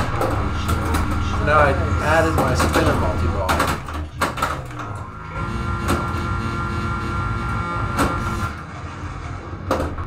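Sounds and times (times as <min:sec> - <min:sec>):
pinball playfield rumble: 0:00.0 - 0:10.0.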